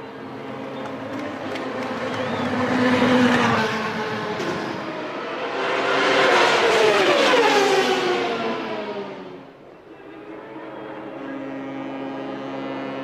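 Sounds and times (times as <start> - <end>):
race car engines passing at high revs: 0.0 - 13.0.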